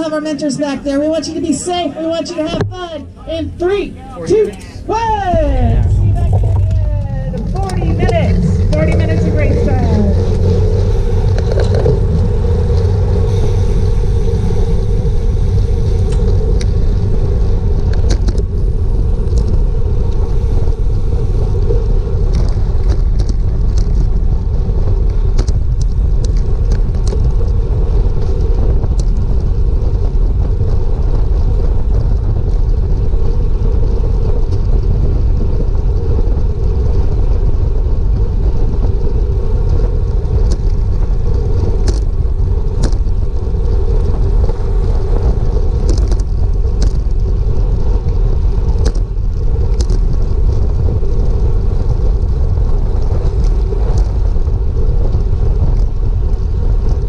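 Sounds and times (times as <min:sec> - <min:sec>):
bicycle tyre and road noise: 0:00.0 - 0:57.0
wind rushing over microphone: 0:00.0 - 0:57.0.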